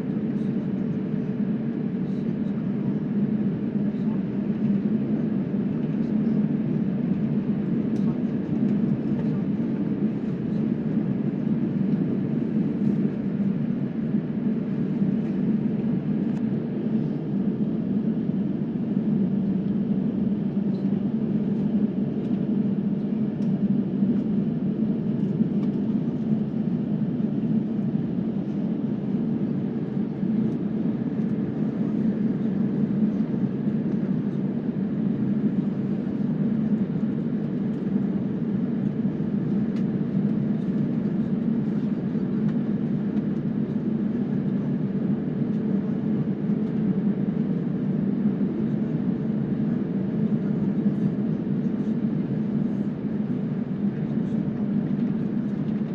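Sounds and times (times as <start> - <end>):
jet airliner cabin rumble: 0.0 - 55.9.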